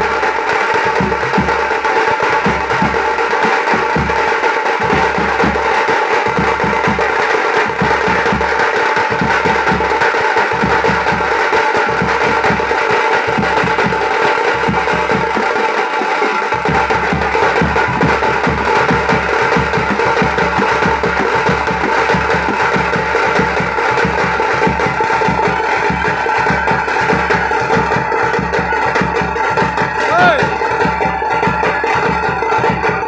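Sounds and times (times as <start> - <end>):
side drums beaten fast: 0.0 - 33.0.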